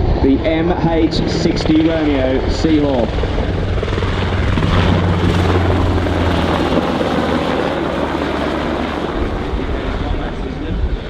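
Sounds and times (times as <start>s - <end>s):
helicopter flying by: 0.0s - 11.0s.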